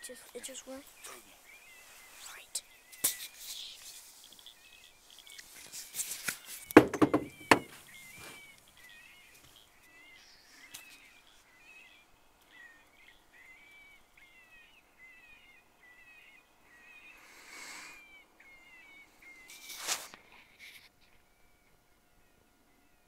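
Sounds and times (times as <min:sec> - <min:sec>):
high chirping calls: 0:00.1 - 0:19.7.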